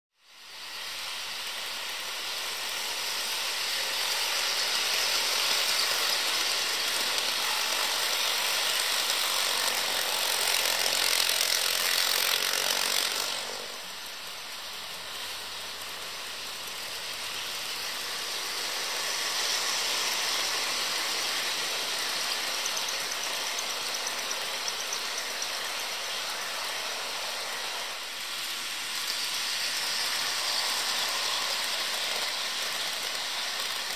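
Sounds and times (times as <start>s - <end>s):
model train motors whirring: 0.2s - 33.9s
model train wheels rattling: 0.7s - 33.9s.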